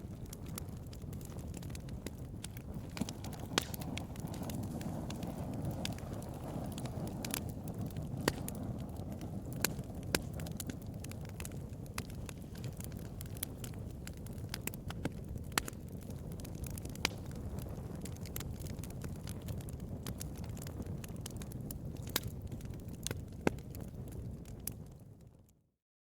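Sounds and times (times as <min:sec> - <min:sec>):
bonfire flames rushing: 0:00.0 - 0:25.4
fire crackling and popping: 0:00.0 - 0:25.6.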